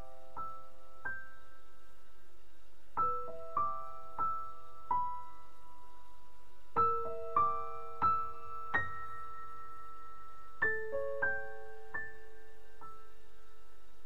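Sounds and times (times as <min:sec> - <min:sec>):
slow piano notes: 0:00.0 - 0:01.9, 0:02.9 - 0:14.0.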